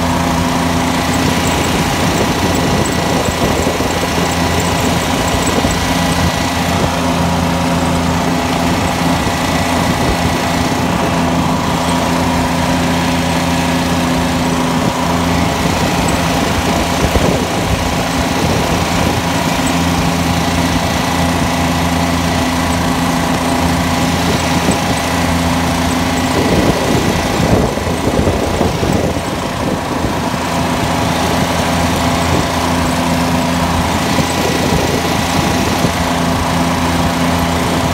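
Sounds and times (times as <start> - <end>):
tractor engine running under load: 0.0 - 37.9.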